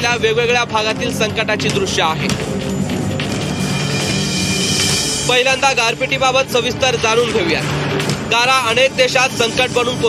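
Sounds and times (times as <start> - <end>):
news music with sustained tones: 0.0 - 10.0.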